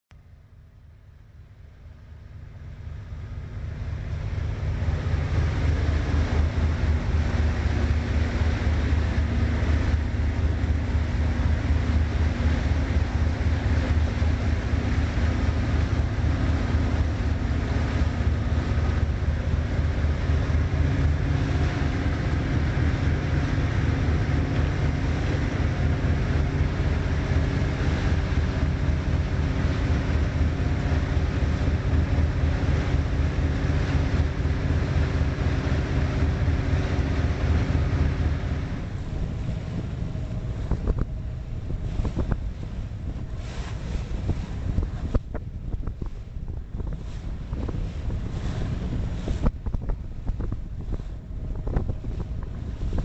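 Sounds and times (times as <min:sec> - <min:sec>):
boat engines humming: 0:00.2 - 0:53.0
water rushing past hull: 0:00.2 - 0:53.0
wind buffeting microphone: 0:03.0 - 0:53.0.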